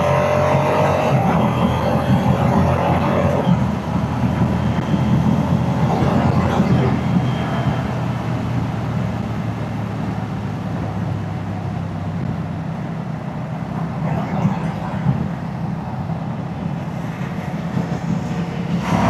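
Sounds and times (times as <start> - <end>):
motorcycle engine and exhaust: 0.0 - 19.0.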